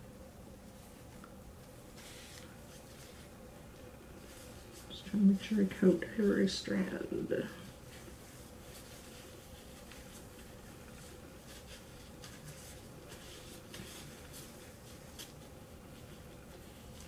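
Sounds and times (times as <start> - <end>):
faint steady hum: 0.0 - 17.0
gloved fingers rustling hair: 0.5 - 17.0.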